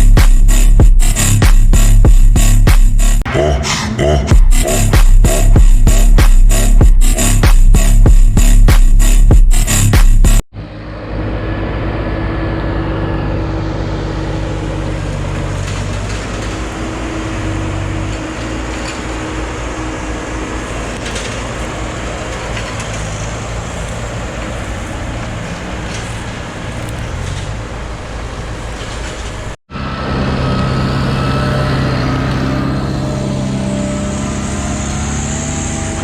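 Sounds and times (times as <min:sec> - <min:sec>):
diesel engines running: 0:00.0 - 0:36.0.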